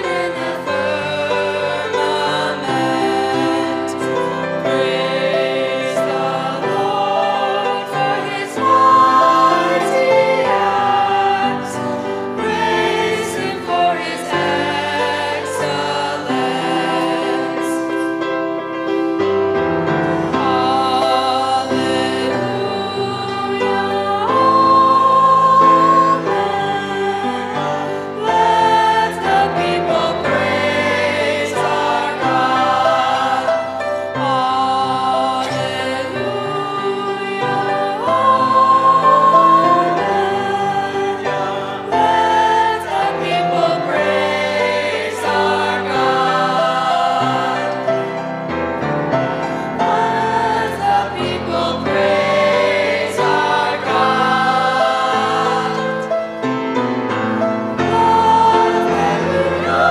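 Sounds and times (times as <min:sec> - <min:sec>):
choir singing: 0:00.0 - 0:59.9
instrumental accompaniment: 0:00.0 - 0:59.9.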